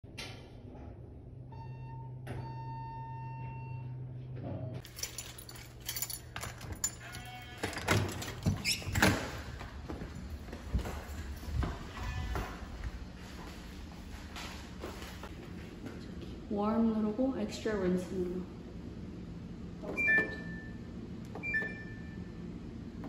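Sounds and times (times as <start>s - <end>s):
faint hum with pitched tone: 0.2s - 7.2s, 9.4s - 23.0s.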